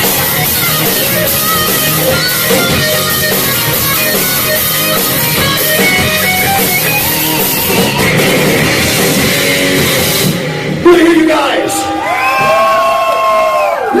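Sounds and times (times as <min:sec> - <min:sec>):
heavy metal band playing: 0:00.0 - 0:12.8.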